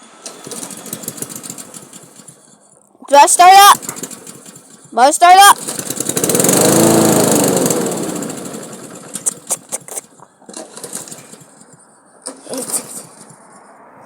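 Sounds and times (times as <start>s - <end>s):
lawn mower engine running down: 0.0s - 13.4s.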